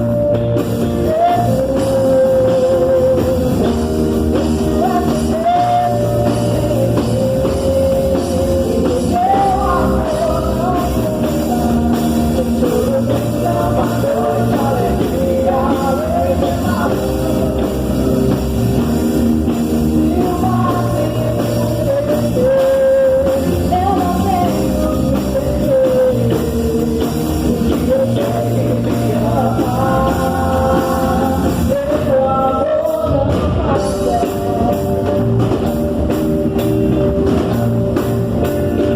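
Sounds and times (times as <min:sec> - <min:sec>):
person singing: 0:00.0 - 0:35.8
bass guitar: 0:00.0 - 0:38.9
drum kit: 0:00.0 - 0:38.9
electric guitar: 0:00.0 - 0:38.9.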